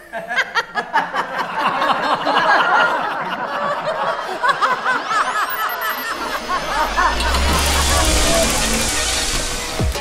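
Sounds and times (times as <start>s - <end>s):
people laughing: 0.0s - 9.7s.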